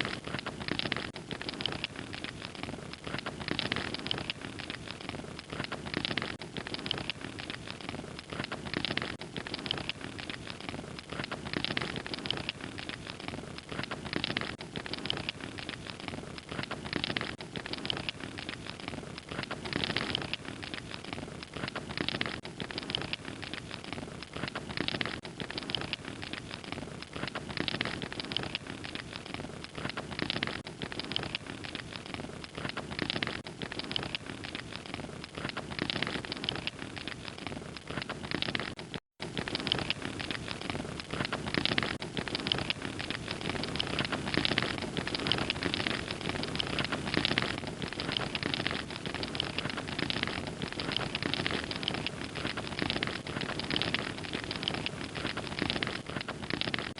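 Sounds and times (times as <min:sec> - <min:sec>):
log fire crackling: 0:00.0 - 0:56.9.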